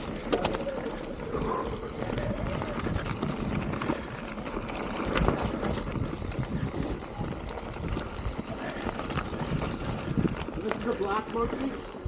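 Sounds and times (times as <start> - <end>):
bike rattling and knocking: 0.0 - 12.0
bike tyres rumbling over dirt: 0.0 - 12.0.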